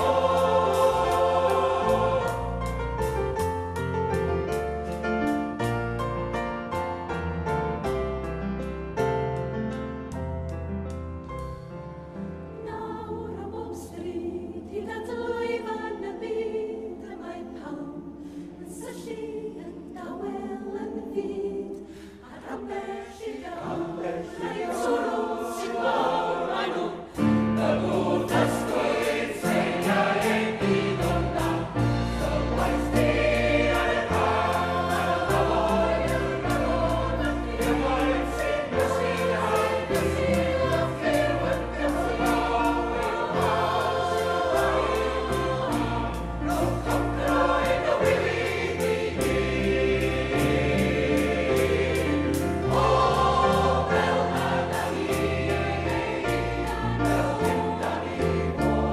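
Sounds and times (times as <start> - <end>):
mixed choir singing: 0.0 - 3.6, 12.6 - 58.9.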